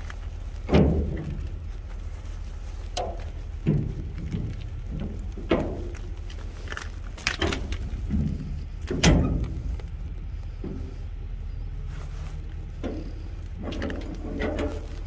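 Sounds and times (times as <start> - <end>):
footsteps on wet pavement: 0.0 - 15.0
steady low rumble: 0.0 - 15.0.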